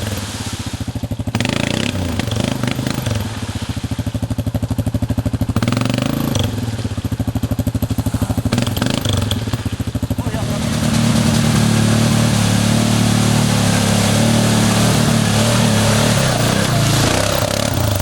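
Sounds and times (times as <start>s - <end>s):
atv engine chugging: 0.0s - 18.0s.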